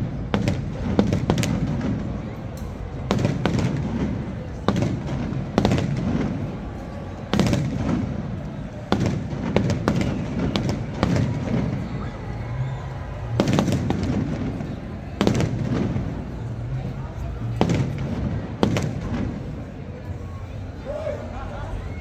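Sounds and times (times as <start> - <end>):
fireworks bangs with rumble: 0.0 - 19.8.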